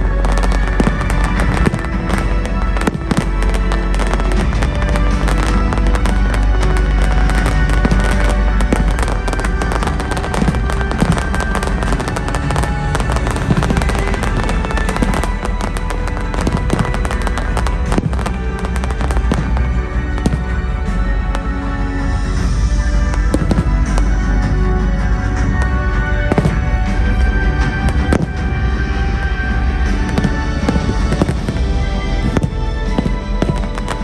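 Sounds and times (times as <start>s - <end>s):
fireworks crackling and popping: 0.0s - 34.0s
loud music: 0.0s - 34.0s.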